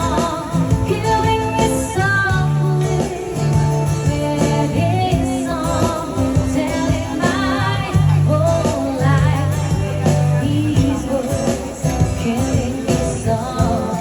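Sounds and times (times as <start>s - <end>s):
guitar: 0.0s - 14.0s
person singing: 0.0s - 14.0s.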